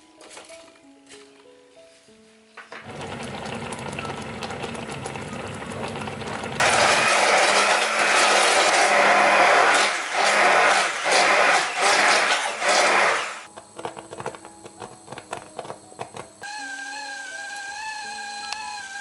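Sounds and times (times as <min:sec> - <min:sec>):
kitchen appliance motor running: 0:02.8 - 0:19.0.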